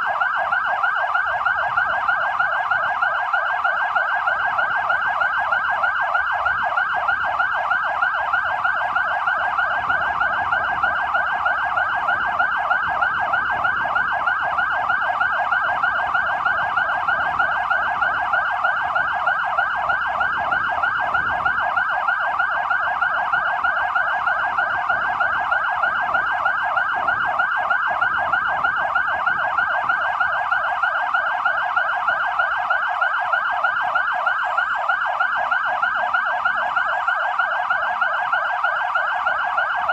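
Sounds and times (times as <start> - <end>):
fire engine sirens wailing: 0.0 - 39.9.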